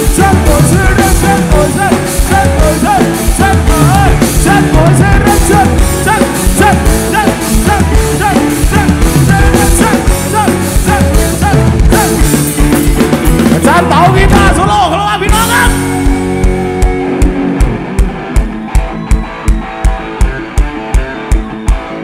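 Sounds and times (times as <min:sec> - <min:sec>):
live band over loud pa: 0:00.0 - 0:22.0
steady drum beat: 0:00.0 - 0:22.0.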